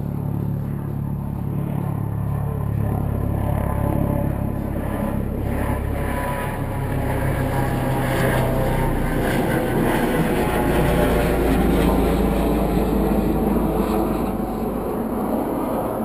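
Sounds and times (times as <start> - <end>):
low engine hum: 0.0 - 16.0
traffic rumble: 0.0 - 16.0.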